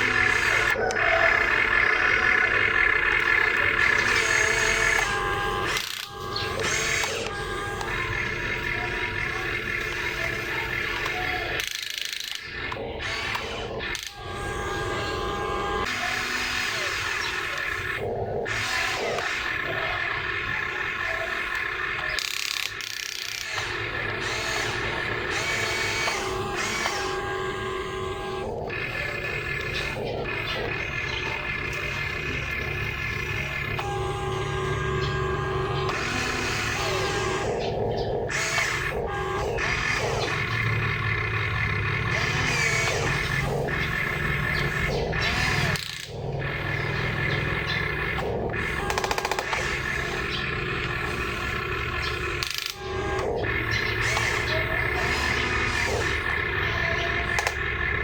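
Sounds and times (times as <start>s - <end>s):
small electric motors whining: 0.0s - 58.0s.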